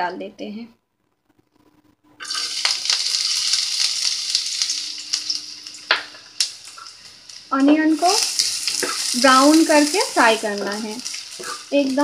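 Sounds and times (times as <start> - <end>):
onion sizzling in hot oil: 2.2 - 12.0.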